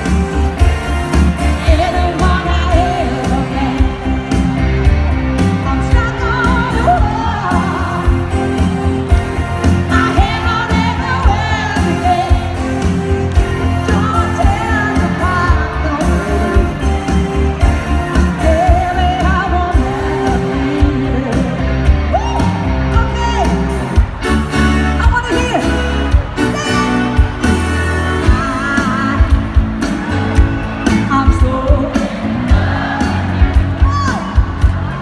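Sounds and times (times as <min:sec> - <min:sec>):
woman singing lead: 0:00.0 - 0:23.7, 0:24.8 - 0:35.0.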